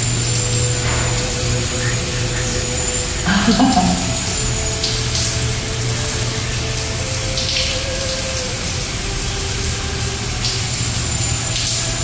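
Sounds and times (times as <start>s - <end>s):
shower water hissing on tiles: 0.0s - 12.0s.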